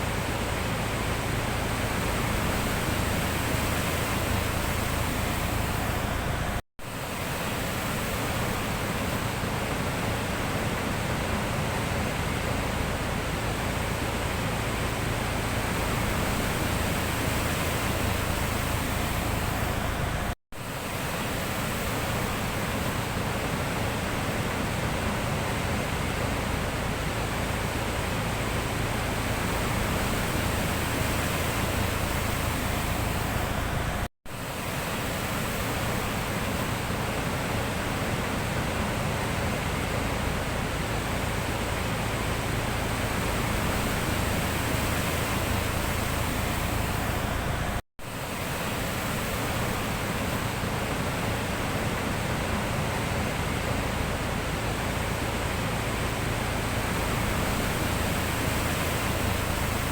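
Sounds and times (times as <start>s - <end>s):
sea rushing: 0.0s - 59.9s.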